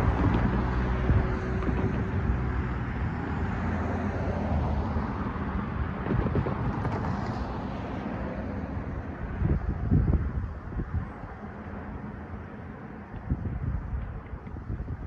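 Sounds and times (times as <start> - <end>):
cars driving over railroad crossing: 0.0 - 14.7
tyre and engine rumble: 0.0 - 15.0.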